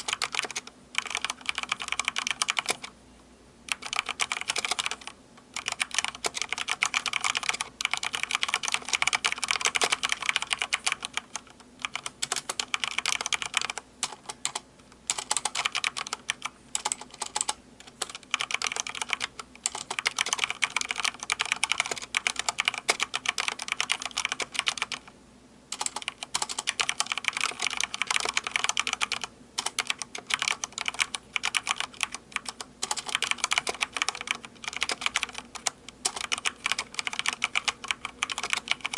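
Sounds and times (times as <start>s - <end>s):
fast typing on mechanical keyboard: 0.0s - 2.9s, 3.7s - 25.1s, 25.7s - 38.9s.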